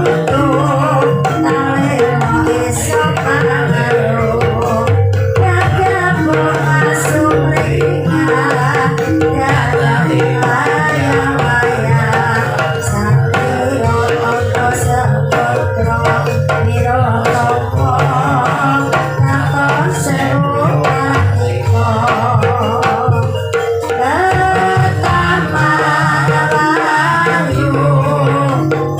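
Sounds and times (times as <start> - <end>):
gamelan instruments: 0.0 - 28.9
hand drumming: 0.0 - 28.9
person singing: 0.0 - 28.9.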